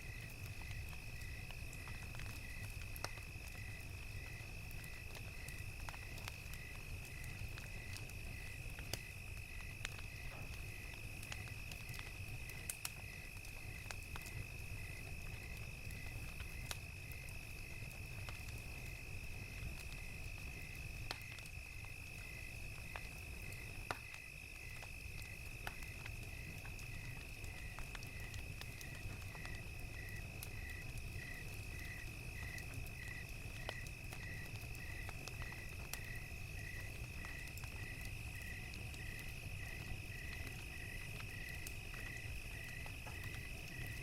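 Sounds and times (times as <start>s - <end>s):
crickets chirping: 0.0s - 44.0s
wood fire crackling: 0.0s - 44.0s.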